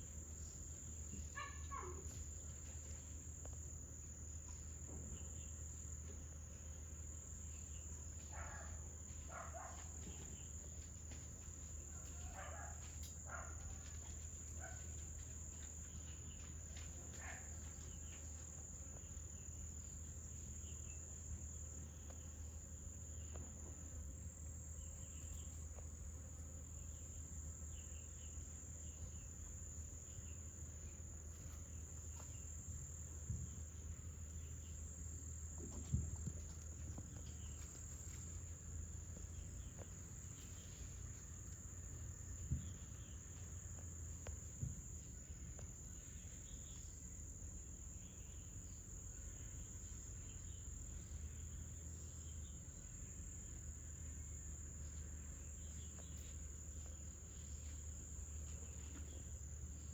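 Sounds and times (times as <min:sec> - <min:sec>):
insect chorus: 0:00.0 - 0:59.9.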